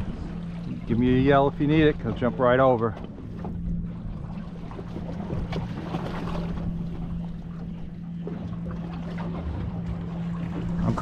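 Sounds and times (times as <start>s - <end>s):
boat machinery hum: 0.0s - 11.0s
water slapping against hull: 0.0s - 11.0s.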